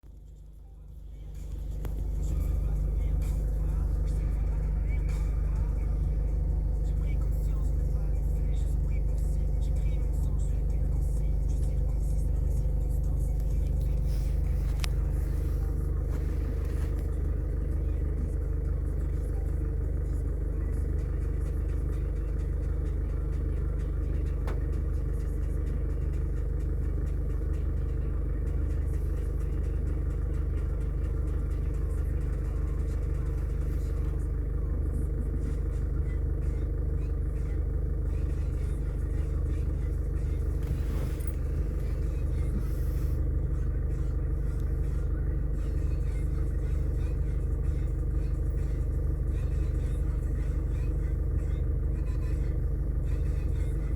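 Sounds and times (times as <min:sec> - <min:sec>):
low rumble with hum: 0:00.0 - 0:53.9.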